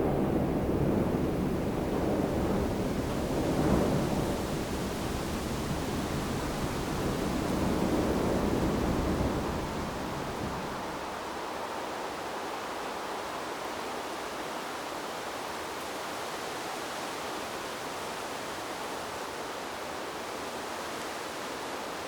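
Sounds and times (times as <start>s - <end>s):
wind through bamboo: 0.0s - 22.0s.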